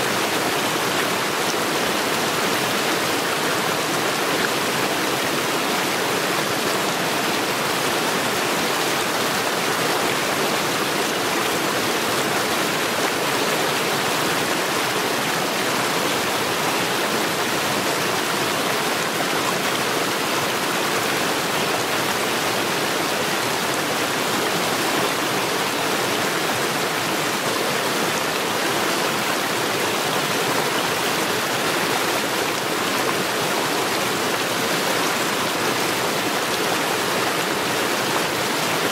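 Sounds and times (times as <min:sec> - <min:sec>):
stream water rushing over stones: 0:00.0 - 0:38.9.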